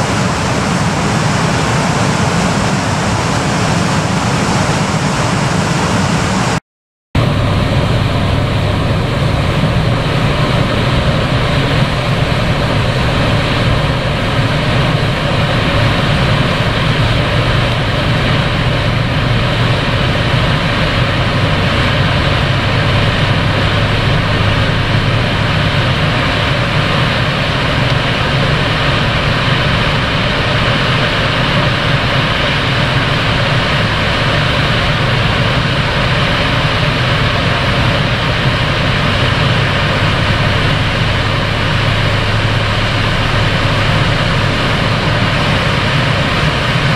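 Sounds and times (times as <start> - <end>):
river rushing over rocks: 0.0 - 6.6, 7.2 - 46.9
deep low rumble: 7.2 - 46.9.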